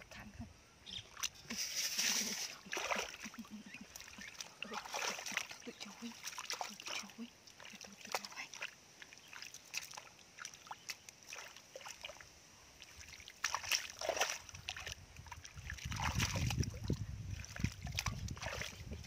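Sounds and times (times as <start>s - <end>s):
hands squelching in wet mud: 1.0s - 19.0s.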